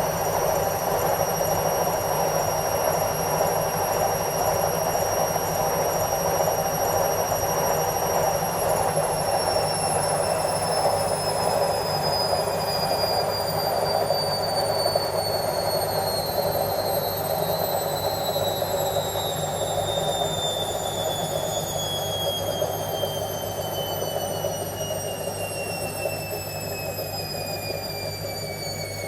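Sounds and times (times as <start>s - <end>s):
washing machine spinning with whine: 0.0s - 29.0s.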